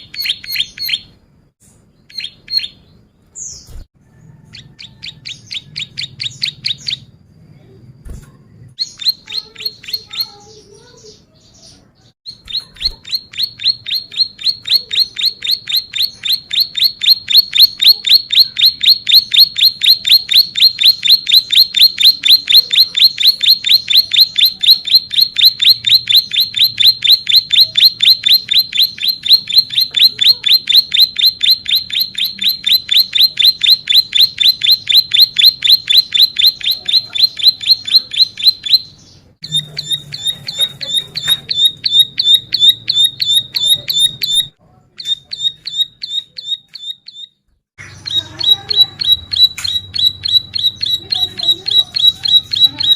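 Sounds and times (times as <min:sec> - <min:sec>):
bird singing rapid high notes: 0:00.0 - 0:01.2, 0:08.8 - 0:52.9.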